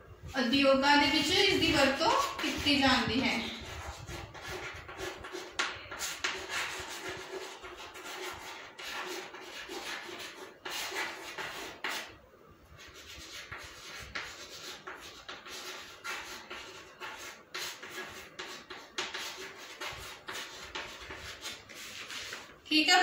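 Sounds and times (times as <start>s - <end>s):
chalk scratching on blackboard: 1.3s - 12.2s, 12.8s - 22.6s.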